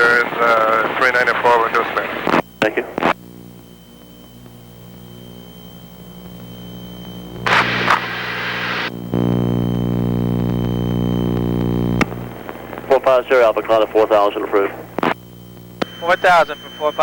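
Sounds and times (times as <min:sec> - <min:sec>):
buzzing radio hum: 0:00.0 - 0:17.0
low steady hum: 0:00.0 - 0:17.0
radio static hiss: 0:00.0 - 0:17.0.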